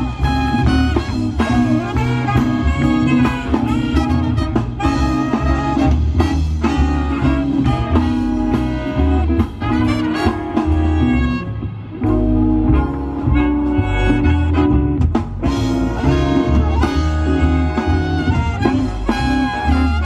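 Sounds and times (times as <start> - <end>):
swing band playing: 0.0 - 20.0.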